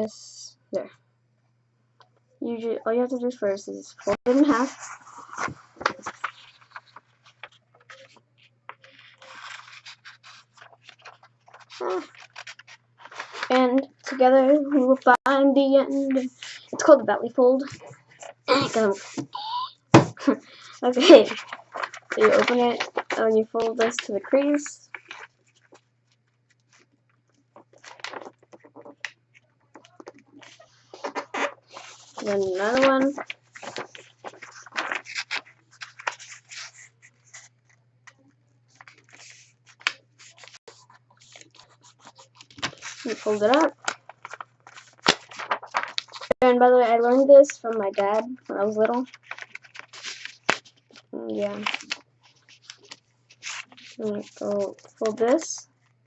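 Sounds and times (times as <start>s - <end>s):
paper folding and creasing: 4.0s - 15.2s, 15.9s - 17.0s, 17.6s - 56.0s.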